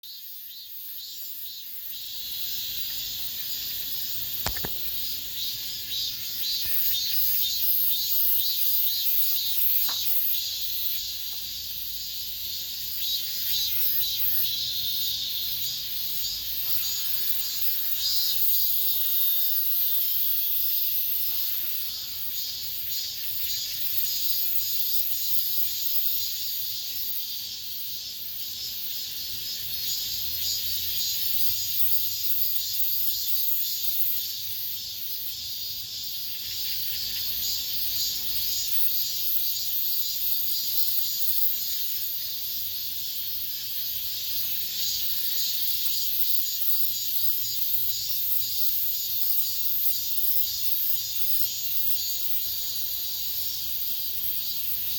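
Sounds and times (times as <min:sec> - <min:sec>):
cicadas buzzing in chorus: 0:00.0 - 0:54.9.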